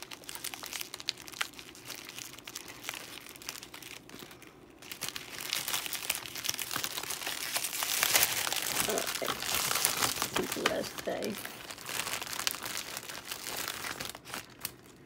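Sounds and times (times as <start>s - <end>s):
foil gift bag crinkling: 0.0s - 15.0s.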